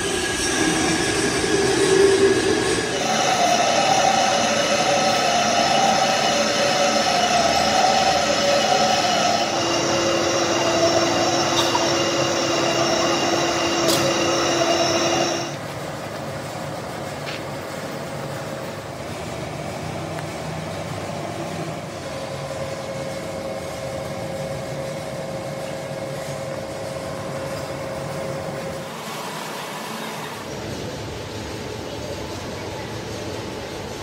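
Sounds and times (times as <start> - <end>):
lathe machining whine: 0.0 - 34.0
steady machine hum: 0.0 - 34.0.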